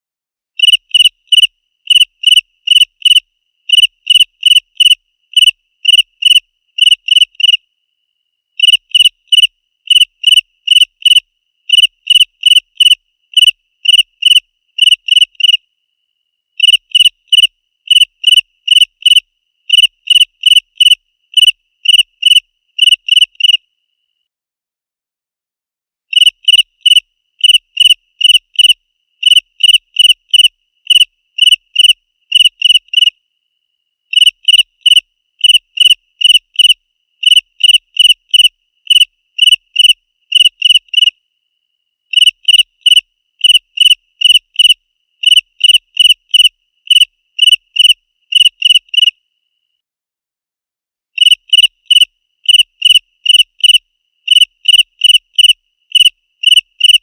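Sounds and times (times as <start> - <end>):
cricket chirping: 0.6 - 24.3, 26.1 - 49.8, 51.2 - 57.0.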